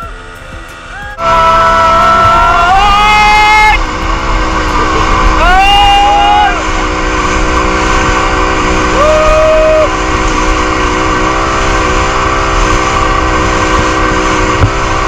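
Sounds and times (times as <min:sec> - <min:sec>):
horn sounding: 0:00.0 - 0:12.9
engine running: 0:00.0 - 0:15.0.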